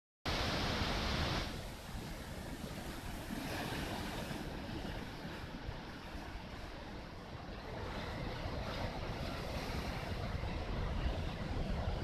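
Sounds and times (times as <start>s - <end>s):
rough waves rushing: 0.3s - 12.0s
strong wind: 0.3s - 12.0s.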